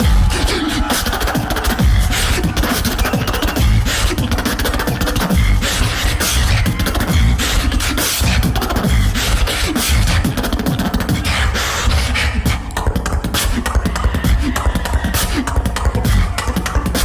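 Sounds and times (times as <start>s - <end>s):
mouth percussion: 0.0s - 17.0s
vocal bass: 0.0s - 17.0s.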